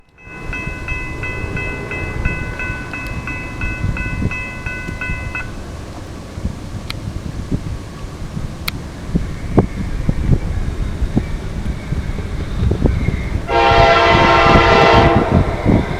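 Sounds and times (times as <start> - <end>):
railroad bell ringing: 0.0 - 6.9, 10.0 - 15.9
freight train rumbling: 0.0 - 15.9
wind buffeting microphone: 0.0 - 15.9.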